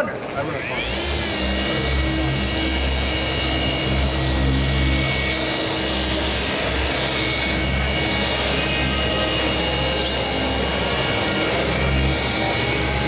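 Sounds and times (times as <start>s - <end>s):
electric polisher motor whine: 0.0s - 13.0s.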